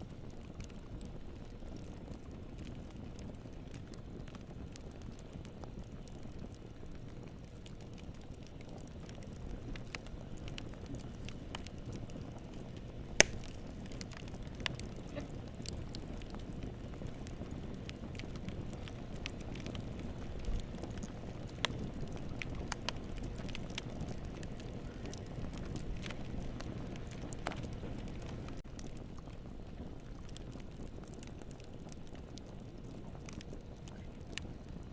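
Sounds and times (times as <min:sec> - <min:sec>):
fire crackles and pops: 0:00.0 - 0:34.9
fire flames rumbling: 0:00.0 - 0:34.9.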